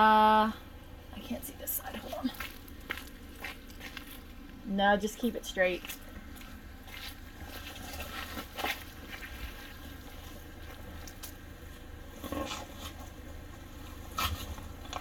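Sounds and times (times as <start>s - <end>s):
off-road engine rumbling: 0.0s - 15.0s.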